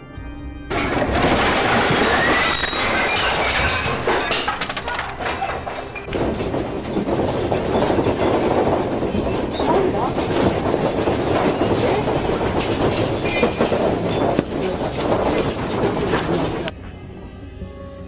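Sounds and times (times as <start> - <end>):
earthquake rumble: 0.7 - 16.7
objects rattling and clattering: 0.7 - 16.8.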